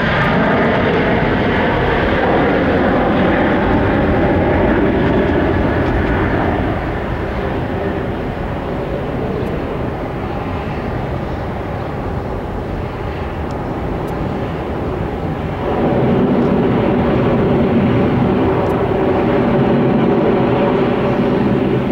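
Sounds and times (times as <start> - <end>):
jet engines roaring at takeoff: 0.0 - 21.9.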